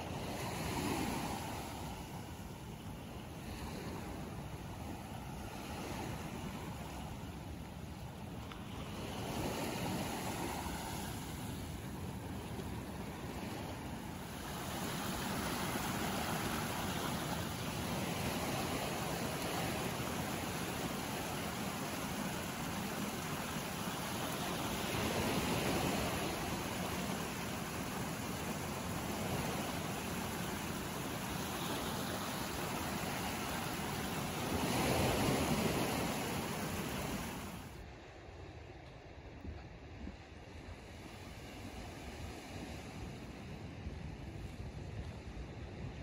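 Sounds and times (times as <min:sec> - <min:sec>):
sea waves on sand beach: 0:00.0 - 0:38.6, 0:39.2 - 0:46.0.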